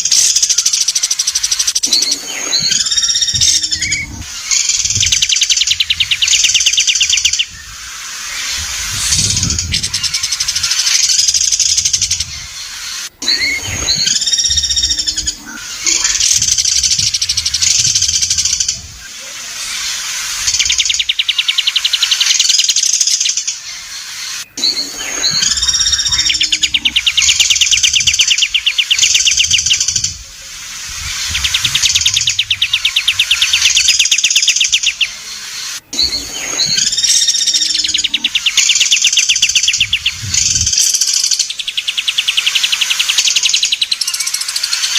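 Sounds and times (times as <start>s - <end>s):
songbird singing buzzy trills: 0.0s - 44.9s.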